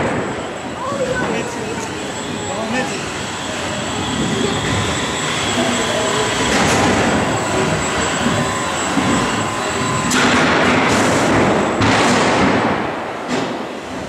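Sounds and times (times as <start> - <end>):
combat robot mechanical whine: 0.2 - 11.8.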